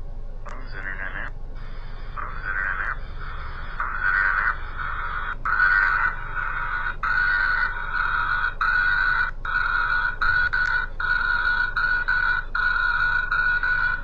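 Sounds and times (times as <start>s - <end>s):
frogs trilling: 0.5s - 14.0s.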